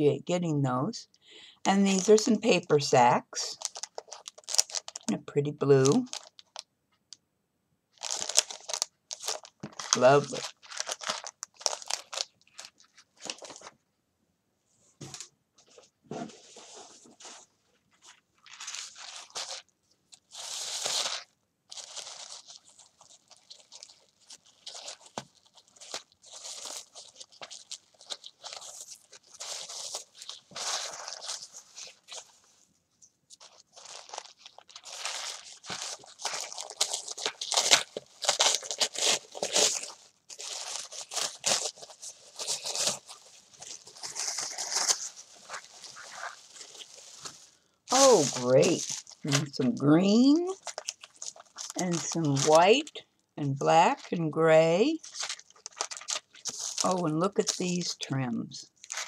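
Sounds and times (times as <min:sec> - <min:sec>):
paper rustling and crinkling: 0:03.6 - 0:05.1, 0:08.0 - 0:13.8, 0:15.0 - 0:32.7, 0:33.3 - 0:53.0, 0:54.9 - 0:57.9, 0:58.7 - 0:59.0.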